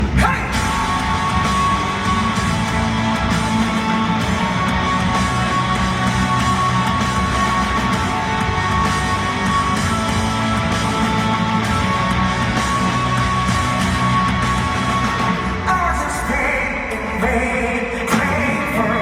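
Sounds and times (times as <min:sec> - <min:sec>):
electric guitar: 0:00.0 - 0:15.7
live rock band playing: 0:00.0 - 0:15.7.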